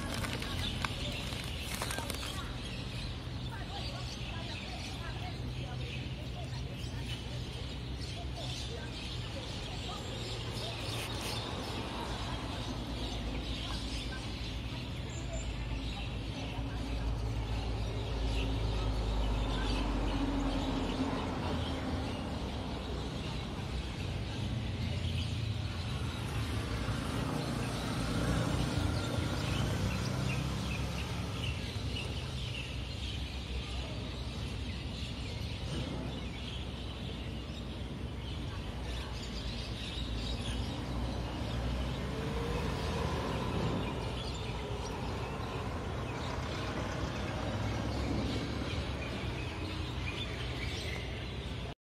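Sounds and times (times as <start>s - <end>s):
birds chirping: 0.0s - 51.8s.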